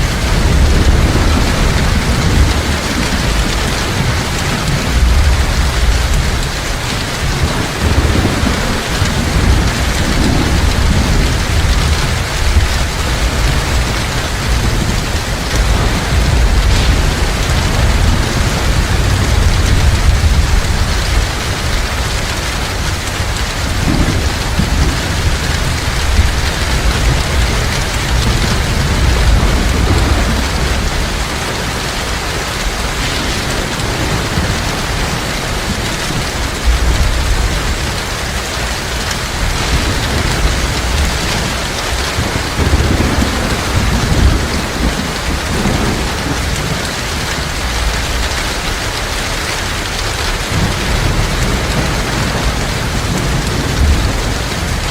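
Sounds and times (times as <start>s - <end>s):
heavy rain falling: 0.0s - 54.9s
low thunder rumbling: 0.0s - 54.9s.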